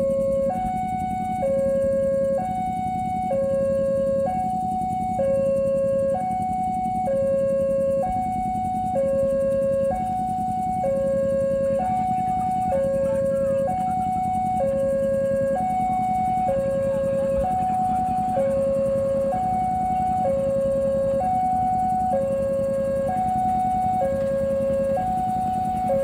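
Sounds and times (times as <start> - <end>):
level crossing alarm alternating tones: 0.0 - 26.0
steady low hum: 0.0 - 26.0.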